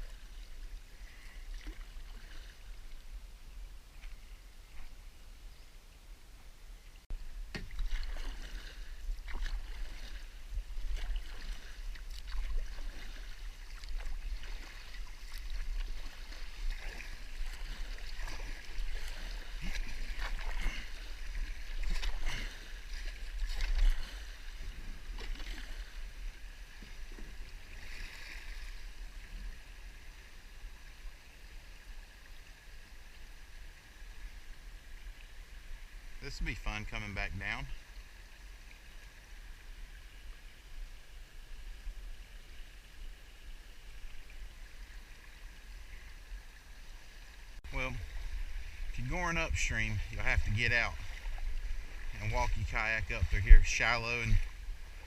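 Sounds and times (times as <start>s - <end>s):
kayak paddle splashing: 0.0s - 5.1s, 7.1s - 55.0s.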